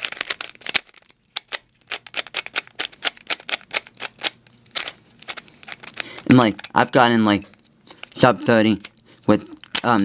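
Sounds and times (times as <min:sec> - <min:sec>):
puzzle cube clacking: 0:00.0 - 0:10.0.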